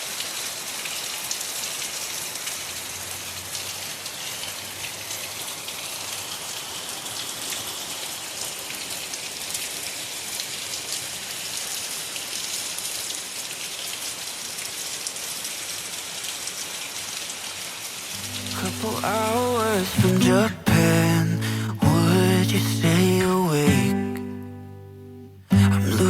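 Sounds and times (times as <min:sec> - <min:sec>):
steady rain falling: 0:00.0 - 0:24.5.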